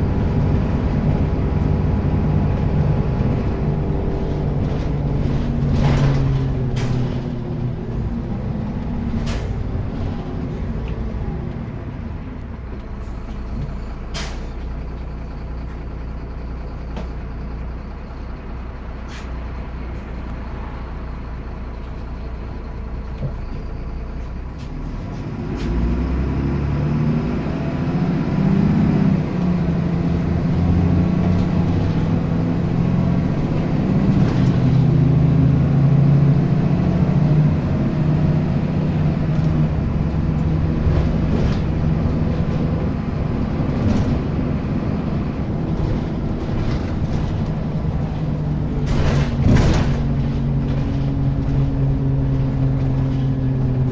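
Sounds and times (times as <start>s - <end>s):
diesel bus engine: 0.0s - 53.9s.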